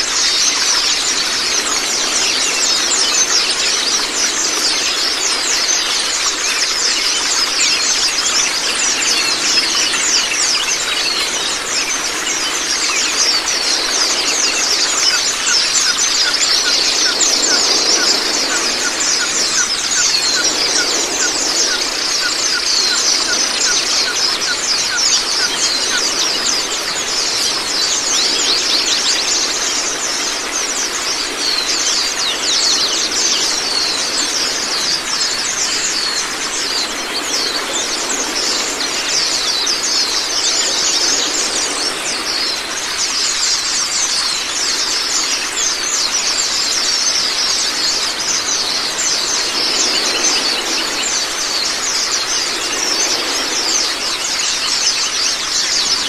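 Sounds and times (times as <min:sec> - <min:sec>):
birds twittering: 0:00.0 - 0:56.0
running water: 0:00.0 - 0:56.0.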